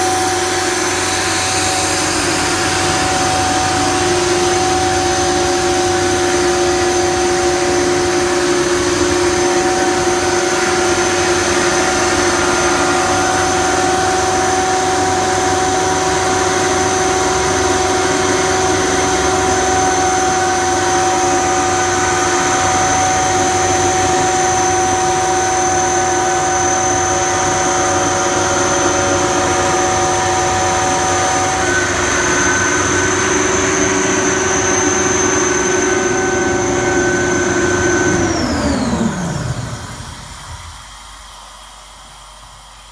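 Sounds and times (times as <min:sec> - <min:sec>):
air compressor humming: 0:00.0 - 0:42.9
compressor high whine: 0:00.0 - 0:42.9.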